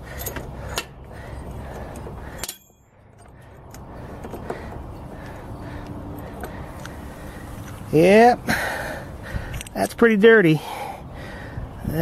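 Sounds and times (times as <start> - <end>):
background hum: 0.0 - 10.0.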